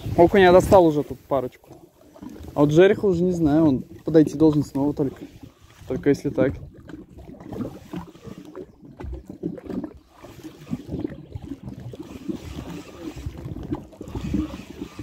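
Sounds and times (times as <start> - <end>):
small waves lapping: 0.0 - 15.0
wind buffeting microphone: 0.0 - 15.0.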